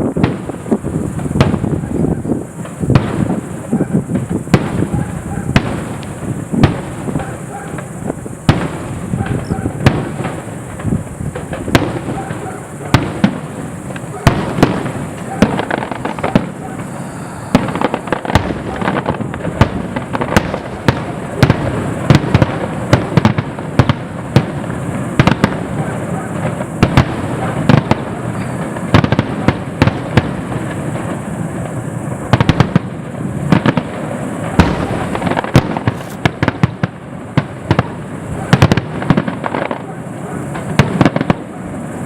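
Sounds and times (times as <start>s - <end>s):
fireworks banging: 0.0s - 42.0s
fireworks crackle: 0.0s - 42.0s.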